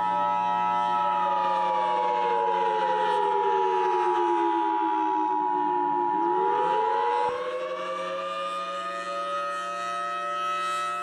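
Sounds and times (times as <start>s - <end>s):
siren wailing: 0.0s - 11.0s.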